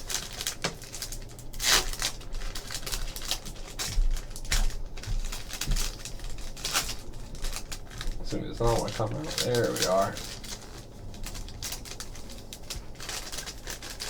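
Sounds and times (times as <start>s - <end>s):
plastic wrapping crinkling: 0.0s - 14.0s
sharp tearing crackles: 0.0s - 14.0s.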